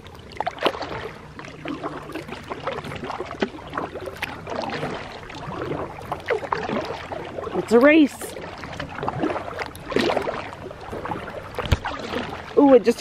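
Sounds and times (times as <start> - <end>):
paddle splashes and drips: 0.0 - 13.0
water washing along hull: 0.0 - 13.0.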